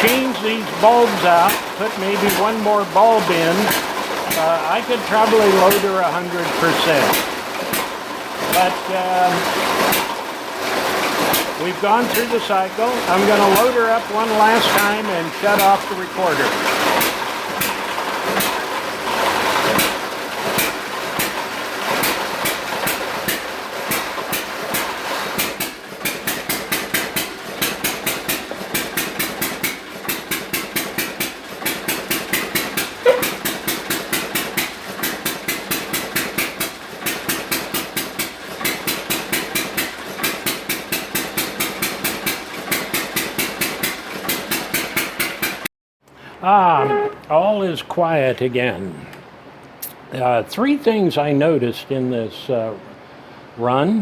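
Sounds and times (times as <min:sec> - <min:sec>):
hit-and-miss engine running: 0:00.0 - 0:45.7.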